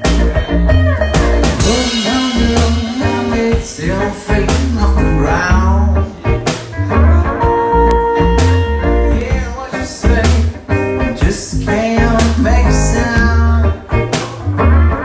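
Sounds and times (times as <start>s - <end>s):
electric guitar: 0.0s - 15.0s
person singing: 1.5s - 15.0s.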